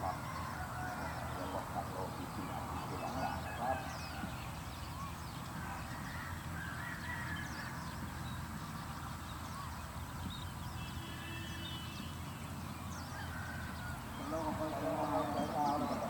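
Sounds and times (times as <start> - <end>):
bird calls and chirps: 0.0 - 16.0.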